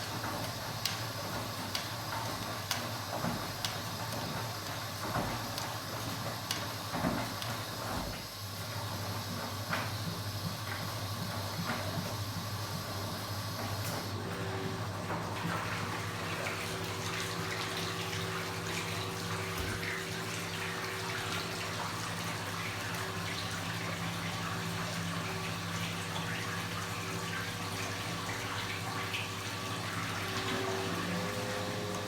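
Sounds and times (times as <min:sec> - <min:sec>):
water splashing in washing machine: 0:00.0 - 0:32.0.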